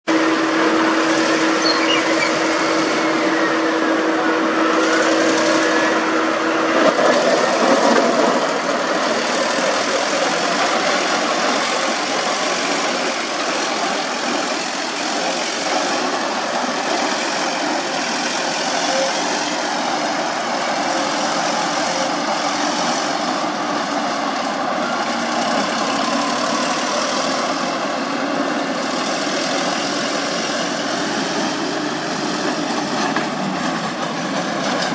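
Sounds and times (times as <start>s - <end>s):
construction machinery engine hum: 0.0s - 34.9s.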